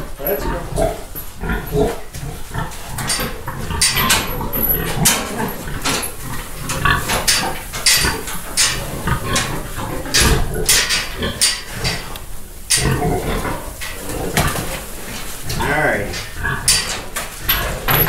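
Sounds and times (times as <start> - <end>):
pig grunting: 0.0 - 18.0
metal gate rattling: 3.0 - 18.0.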